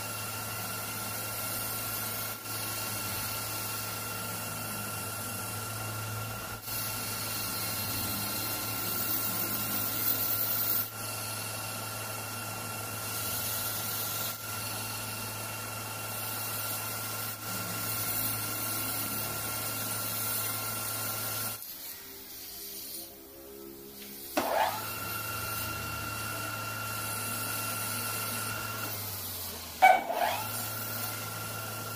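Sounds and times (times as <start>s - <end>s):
metal lathe motor hum: 0.0s - 22.0s, 23.8s - 31.9s
lathe tool hissing cut: 0.0s - 31.9s.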